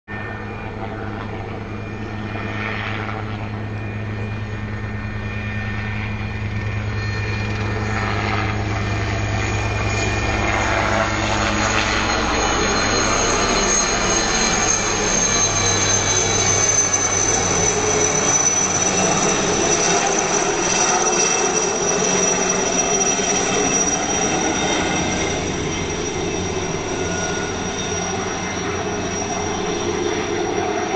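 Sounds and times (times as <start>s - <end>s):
helicopter rotor drone: 0.1s - 30.9s
high turbine whine: 0.1s - 30.9s.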